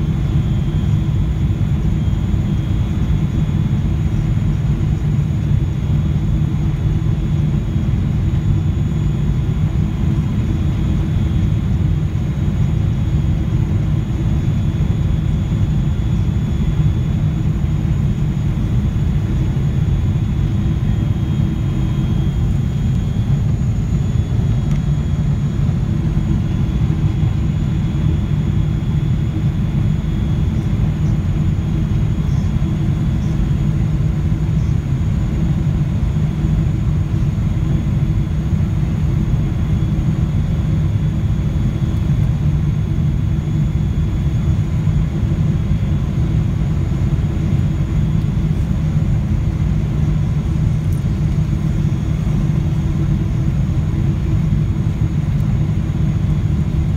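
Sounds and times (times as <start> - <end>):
airliner cabin engine rumble: 0.0 - 56.9
faint high steady whines: 0.0 - 56.9.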